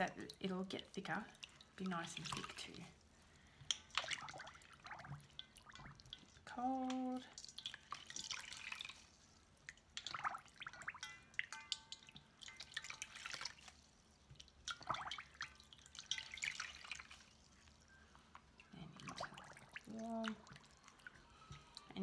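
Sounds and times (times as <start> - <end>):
water splashing in a metal bowl: 0.0 - 22.0.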